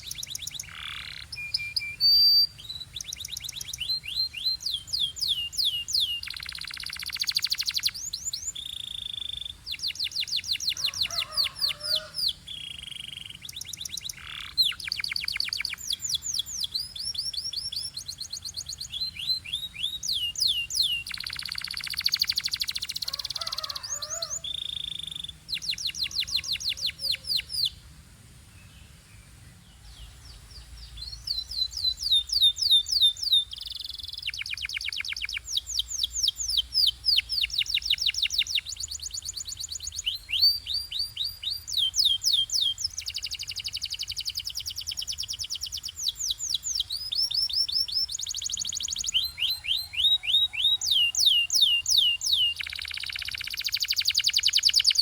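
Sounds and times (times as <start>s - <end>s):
canary singing: 0.0s - 27.8s, 30.3s - 55.0s.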